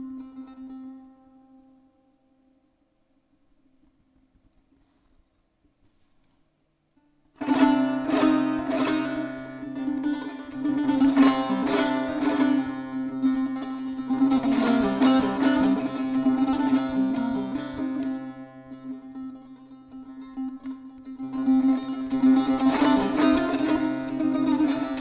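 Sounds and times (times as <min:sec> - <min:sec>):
long-necked lute melody: 0:00.0 - 0:02.3, 0:07.0 - 0:25.0.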